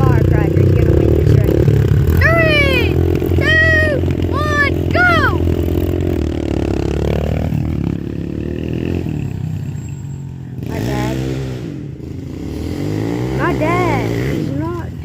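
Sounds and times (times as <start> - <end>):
pit bike engines accelerating: 0.0 - 15.0.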